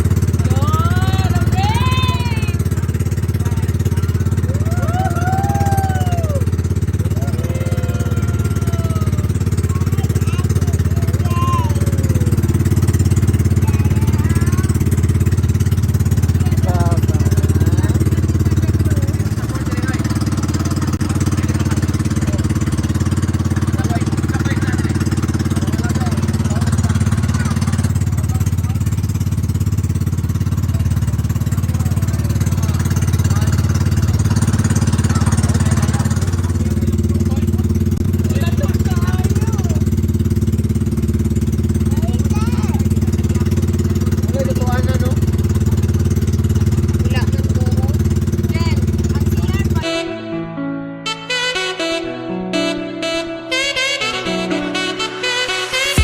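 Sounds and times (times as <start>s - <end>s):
vehicle engine droning: 0.0s - 49.8s, 54.2s - 56.0s.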